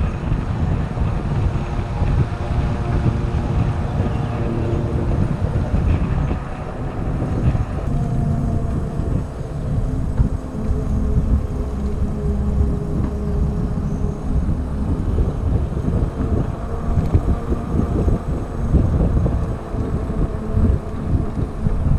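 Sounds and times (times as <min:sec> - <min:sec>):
faint level tones: 0:00.0 - 0:21.9
wind rushing over microphone: 0:00.0 - 0:21.9.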